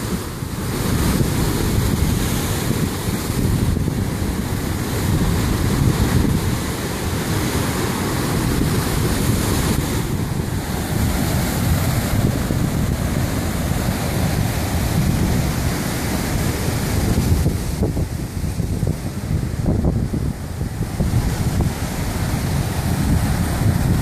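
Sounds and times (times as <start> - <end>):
surf breaking over rocks: 0.0 - 24.0
wind rumbling on microphone: 0.0 - 24.0.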